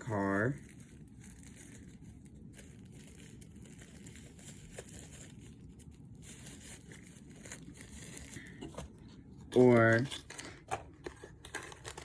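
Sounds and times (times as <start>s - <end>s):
packaging rustling and clicking: 0.6s - 9.1s, 9.8s - 12.0s.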